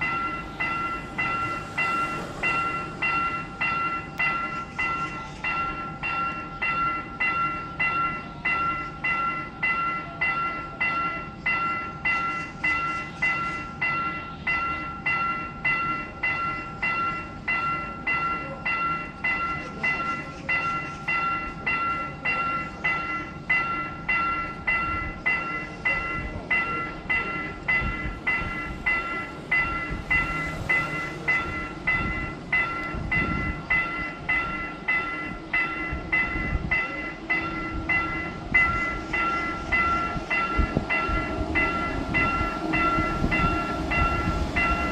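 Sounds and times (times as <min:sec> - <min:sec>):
level crossing warning bell ringing: 0:00.0 - 0:44.9.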